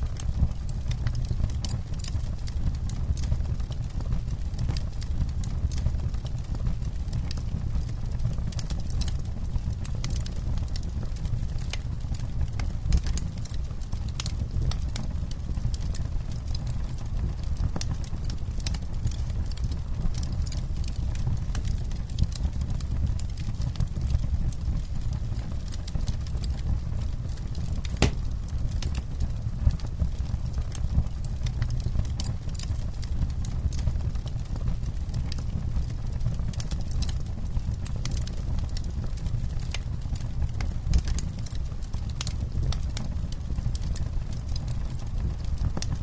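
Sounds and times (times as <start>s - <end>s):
fire low rumble: 0.0s - 46.0s
wood crackling and popping: 0.0s - 46.0s.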